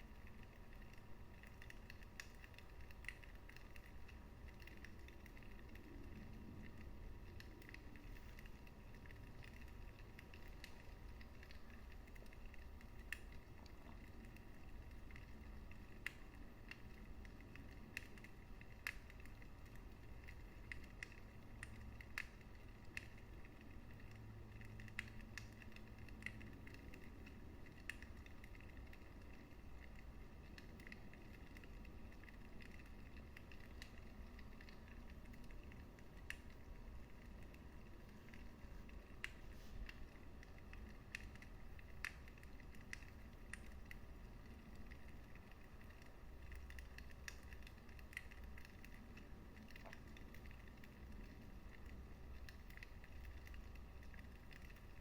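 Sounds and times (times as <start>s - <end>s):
low steady rumble: 0.0s - 55.0s
wood fire crackling: 0.0s - 55.0s.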